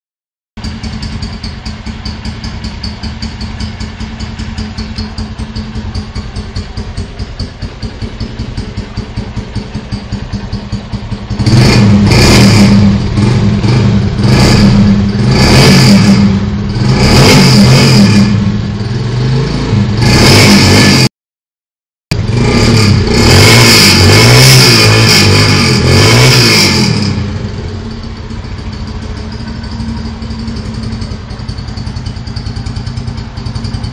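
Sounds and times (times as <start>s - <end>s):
engine idling and revving: 0.6s - 21.1s, 22.1s - 33.9s.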